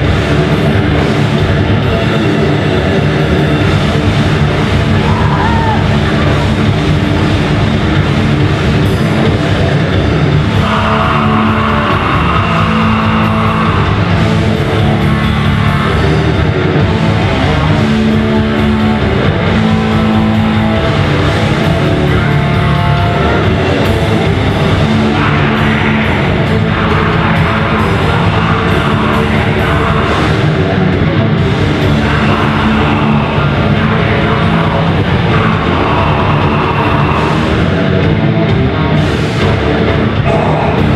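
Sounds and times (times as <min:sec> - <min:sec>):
heavy rock band playing: 0:00.0 - 0:40.9.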